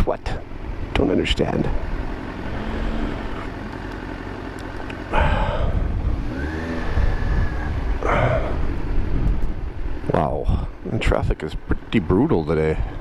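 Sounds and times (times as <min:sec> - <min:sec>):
motorcycle engine running: 0:00.3 - 0:13.0.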